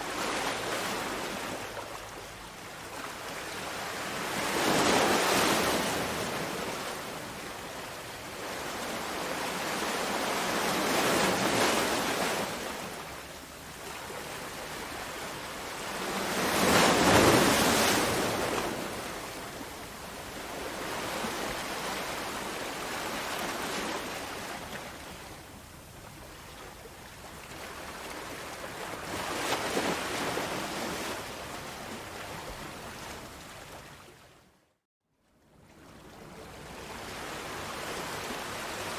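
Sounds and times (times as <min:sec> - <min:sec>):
sea waves breaking on shore: 0:00.0 - 0:34.4.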